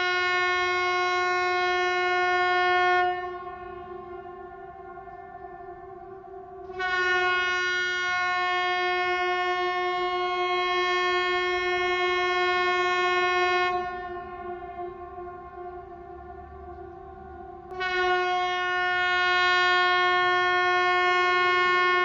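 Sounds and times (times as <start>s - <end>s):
bright horn-like tone: 0.0s - 5.9s, 6.6s - 16.2s, 17.7s - 22.0s
steady horn-like alarm tone: 0.0s - 22.0s.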